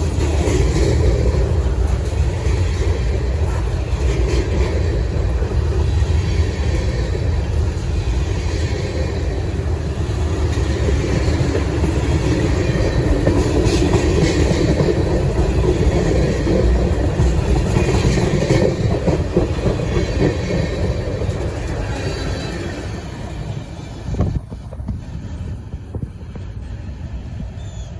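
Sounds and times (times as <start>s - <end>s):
wheels clicking over rail joints: 0.0s - 26.7s
freight train rumbling past: 0.0s - 27.9s.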